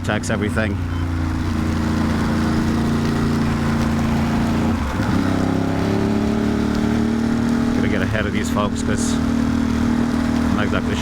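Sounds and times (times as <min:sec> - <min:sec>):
motorcycle engine running: 0:00.0 - 0:11.0
wind and road rush: 0:00.0 - 0:11.0.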